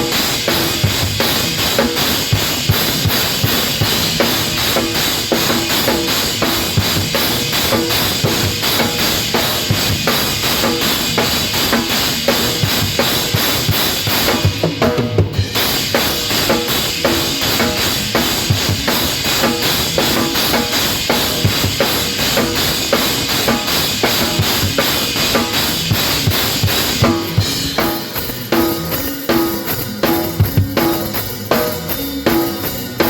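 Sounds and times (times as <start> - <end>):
gospel band playing: 0.0 - 33.0.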